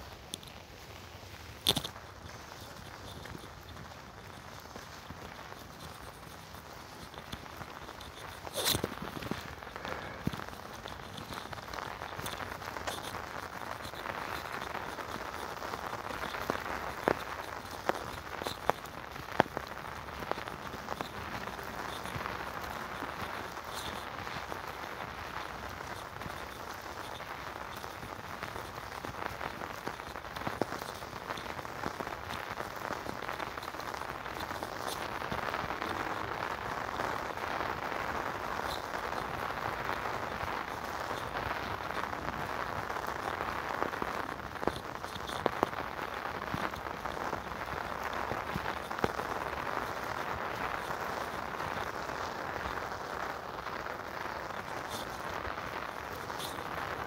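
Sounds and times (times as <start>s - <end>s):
rain on pavement and leaves: 0.0s - 57.0s.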